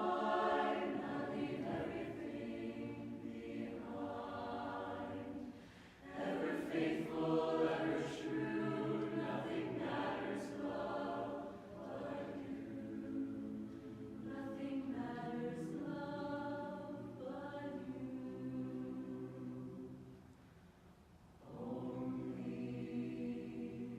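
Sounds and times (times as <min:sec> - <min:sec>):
chorus singing a cappella: 0:00.0 - 0:20.3, 0:21.4 - 0:23.9.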